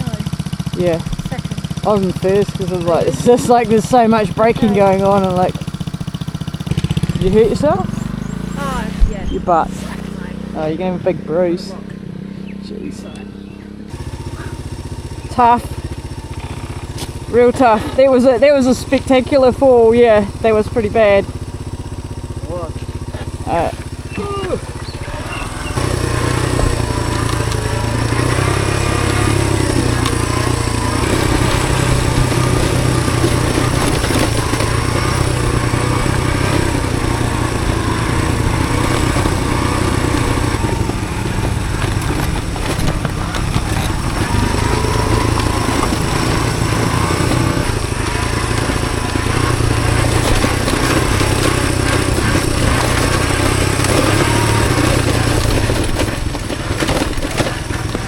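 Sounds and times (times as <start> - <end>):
small motorbike engine running: 0.0 - 58.0.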